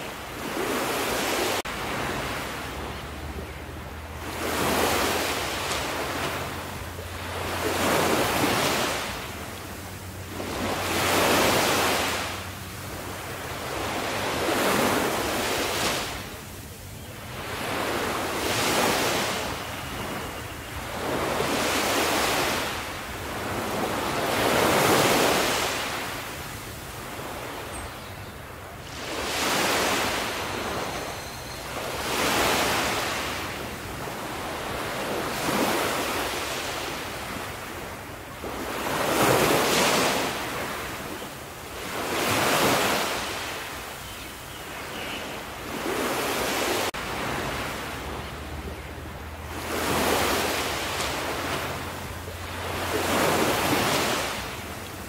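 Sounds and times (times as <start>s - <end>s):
waves washing onto shore: 0.0s - 27.8s, 28.4s - 44.1s, 44.8s - 55.0s.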